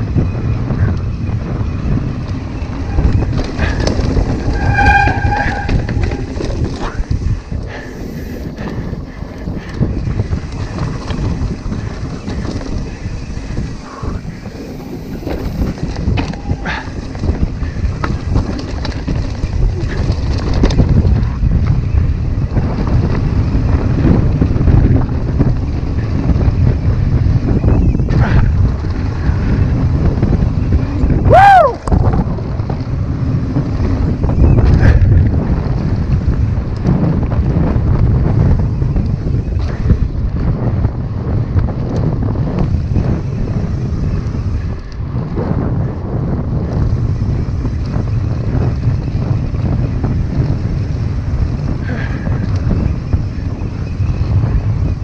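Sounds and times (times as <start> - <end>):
bike rattling over rocks: 0.0 - 55.0
bike tyres rumbling on dirt trail: 0.0 - 55.0
wind buffeting microphone: 0.0 - 55.0.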